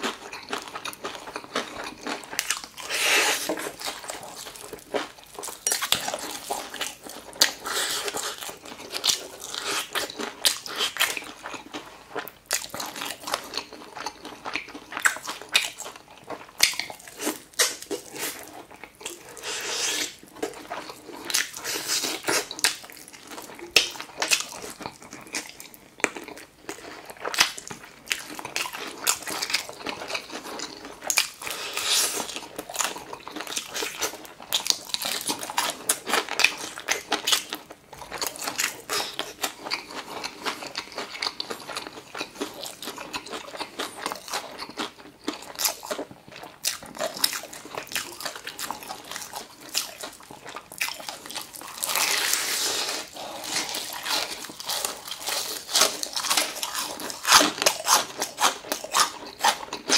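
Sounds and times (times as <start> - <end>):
crunching fried chicken: 0.0 - 59.9
wet chewing: 0.0 - 59.9.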